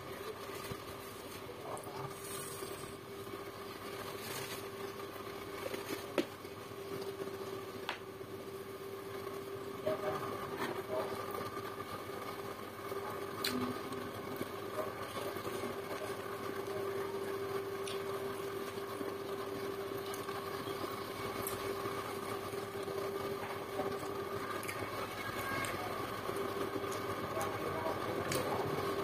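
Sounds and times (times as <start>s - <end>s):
steady droning hum: 0.0s - 29.0s.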